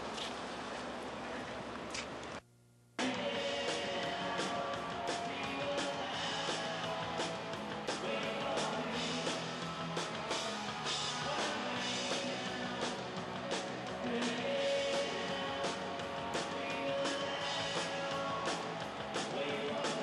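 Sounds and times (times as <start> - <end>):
drums and cymbals: 3.0 - 20.0
rock band playing live: 3.0 - 20.0.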